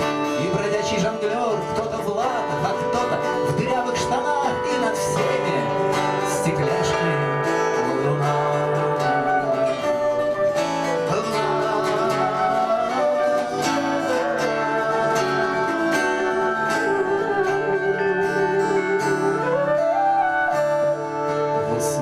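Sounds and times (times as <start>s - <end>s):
acoustic guitar strumming: 0.0s - 22.0s
wavering melody line: 0.0s - 22.0s.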